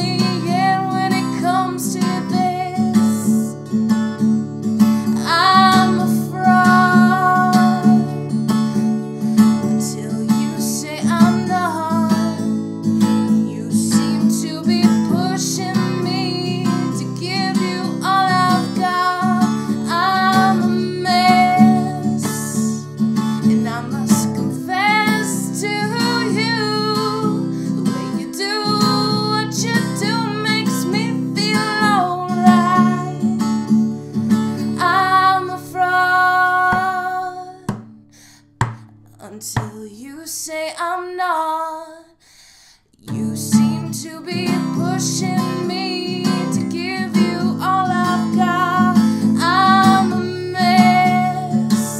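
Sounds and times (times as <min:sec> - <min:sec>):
woman singing: 0:00.0 - 0:03.7, 0:05.0 - 0:33.7, 0:34.3 - 0:38.0, 0:39.1 - 0:42.2, 0:43.0 - 0:51.9
strummed acoustic guitar: 0:00.0 - 0:39.8, 0:43.1 - 0:51.9.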